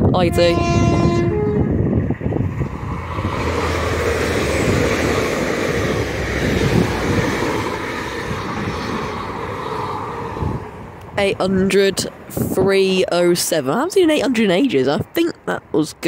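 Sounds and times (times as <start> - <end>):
train passing at speed: 0.0 - 13.1.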